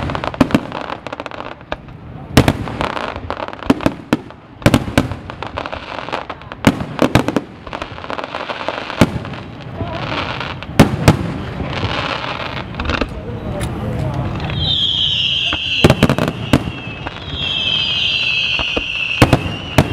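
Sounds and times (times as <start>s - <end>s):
fireworks bangs: 0.0s - 19.9s
fireworks crackling: 0.0s - 19.9s.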